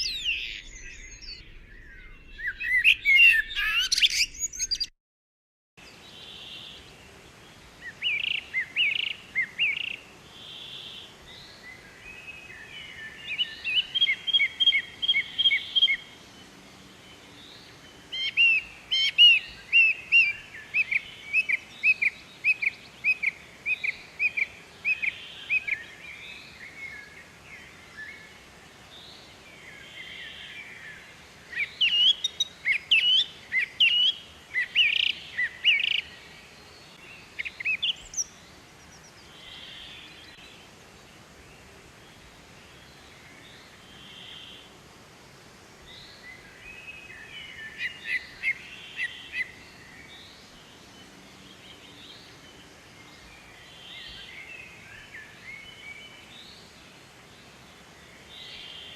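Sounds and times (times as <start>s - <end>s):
songbirds chirping: 0.0s - 4.9s, 5.8s - 58.9s.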